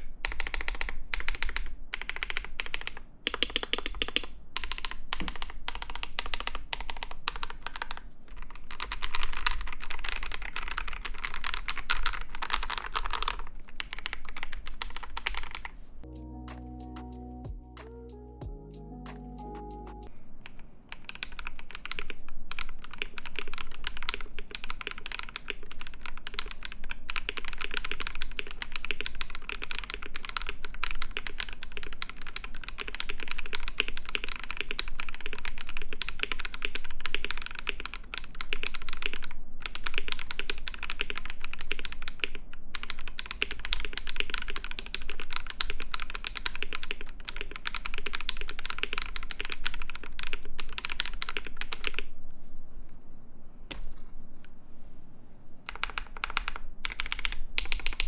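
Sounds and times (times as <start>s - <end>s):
mechanical keyboard typing: 0.0s - 15.7s, 20.4s - 52.1s, 55.7s - 58.0s.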